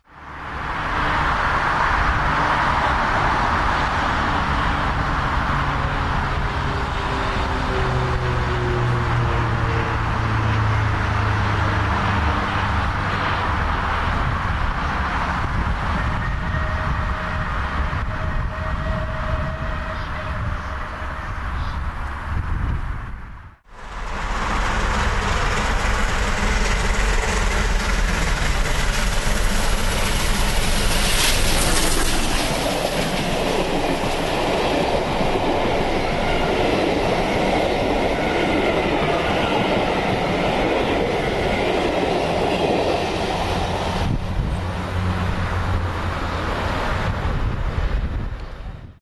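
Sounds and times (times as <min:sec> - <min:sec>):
steam train passing at speed: 0:00.1 - 0:22.4, 0:23.6 - 0:49.0.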